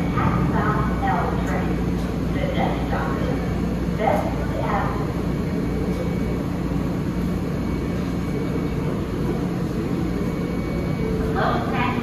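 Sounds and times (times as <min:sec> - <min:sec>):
subway train humming: 0:00.0 - 0:12.0.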